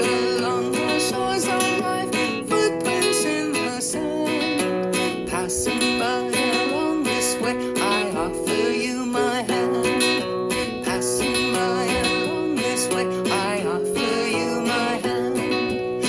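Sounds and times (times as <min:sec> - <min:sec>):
person singing: 0:00.0 - 0:16.0
strummed acoustic guitar: 0:00.0 - 0:16.0.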